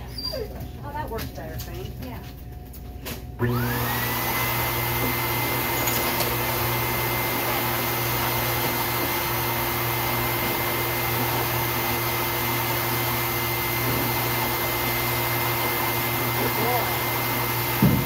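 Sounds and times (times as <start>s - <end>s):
pet blow dryer blowing air: 3.4s - 18.0s.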